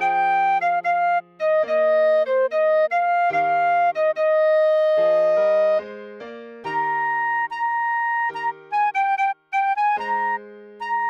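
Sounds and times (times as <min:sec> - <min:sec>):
clarinet melody: 0:00.0 - 0:11.0
piano chords: 0:00.0 - 0:11.0.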